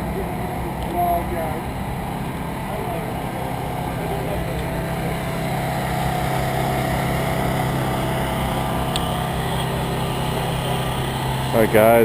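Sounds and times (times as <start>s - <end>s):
faint constant whine: 0.0s - 12.0s
low mechanical drone: 0.0s - 12.0s.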